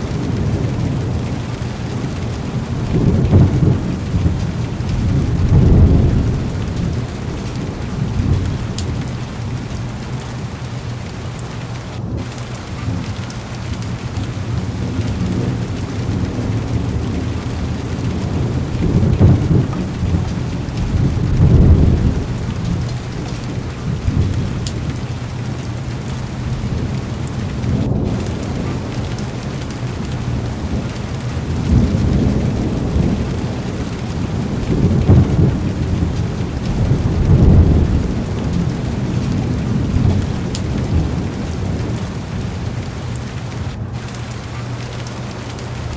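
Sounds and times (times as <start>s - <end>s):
heavy rain on car window: 0.0s - 45.9s
low thunder rolls: 0.0s - 45.9s.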